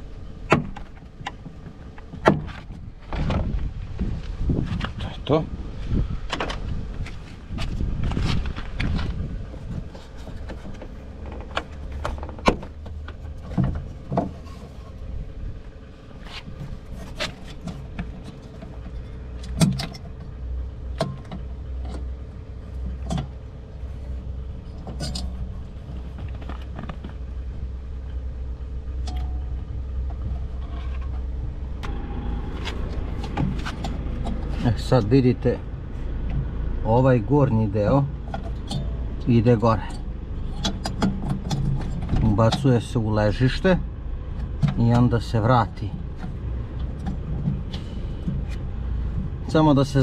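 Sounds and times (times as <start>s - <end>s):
low hum: 0.0s - 50.0s.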